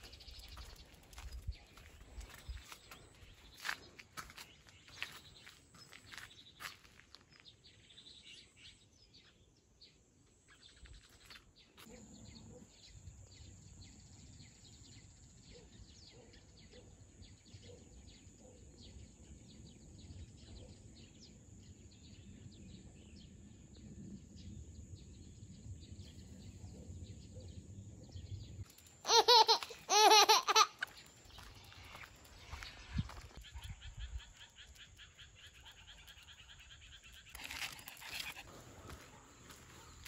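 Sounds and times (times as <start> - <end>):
small birds chirping: 0.0 - 23.8, 24.4 - 40.0.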